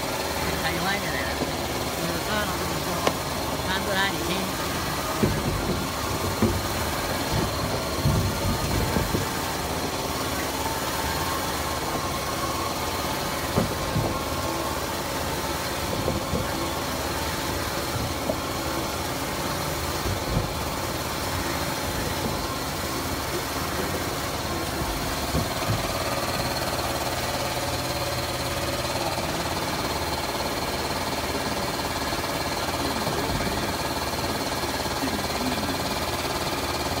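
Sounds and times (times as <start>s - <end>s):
cutting machine running: 0.0s - 37.0s.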